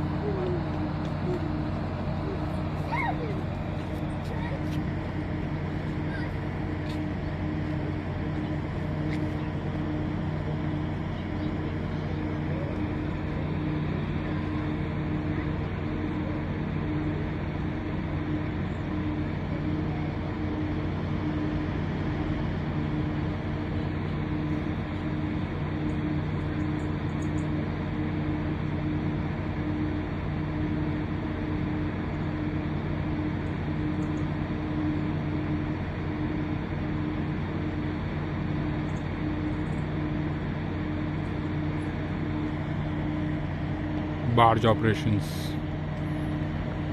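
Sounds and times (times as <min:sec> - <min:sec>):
diesel engines droning: 0:00.0 - 0:46.9.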